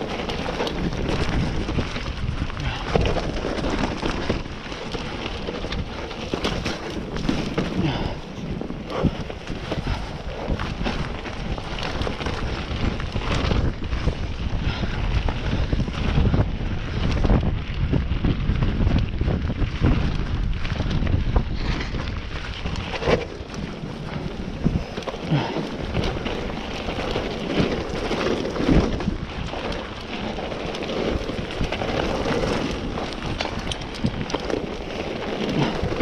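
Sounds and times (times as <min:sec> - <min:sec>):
bike knocks and rattles: 0:00.0 - 0:36.0
tyres rolling over rough trail: 0:00.0 - 0:36.0
wind on microphone: 0:00.0 - 0:36.0.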